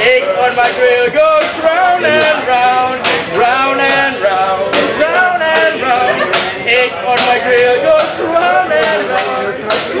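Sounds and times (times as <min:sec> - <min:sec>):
man singing: 0:00.0 - 0:10.0.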